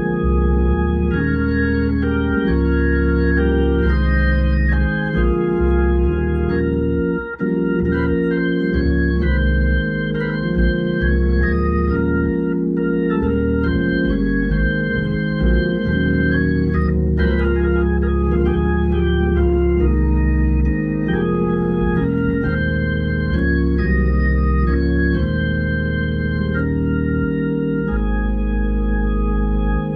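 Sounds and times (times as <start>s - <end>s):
organ playing a slow hymn: 0.0s - 29.9s.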